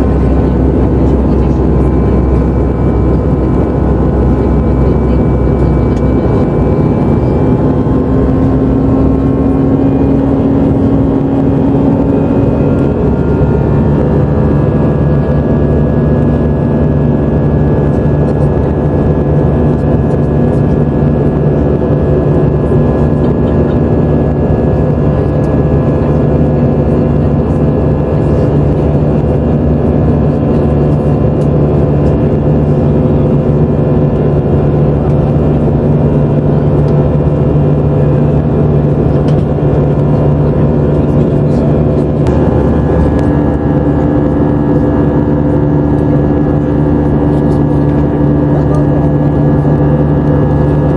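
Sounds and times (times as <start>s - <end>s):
jet airliner cabin noise: 0.0s - 50.9s
steady hums: 0.0s - 50.9s.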